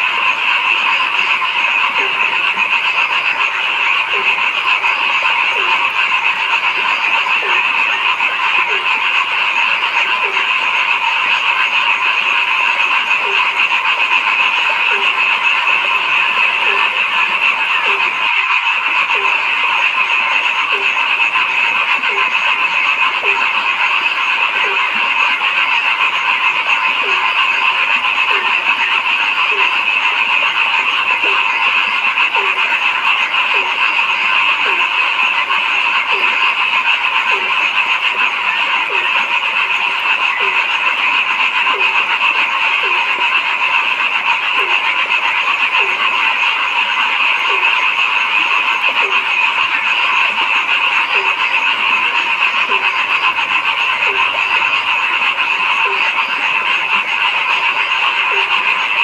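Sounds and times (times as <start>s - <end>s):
chorus of frogs calling: 0.0s - 59.0s.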